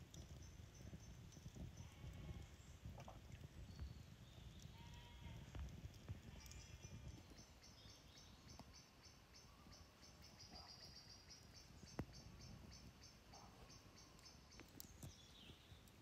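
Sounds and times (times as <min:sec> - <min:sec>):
campfire crackle: 0:00.0 - 0:16.0.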